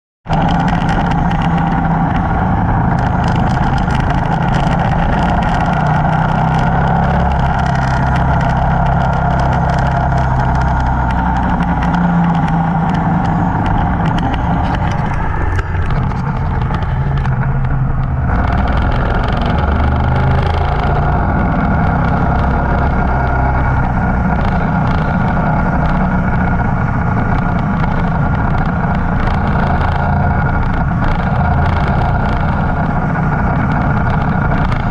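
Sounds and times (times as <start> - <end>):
road noise: 0.2 - 34.9
motorcycle engine running: 0.3 - 34.9
wind noise: 0.3 - 34.9.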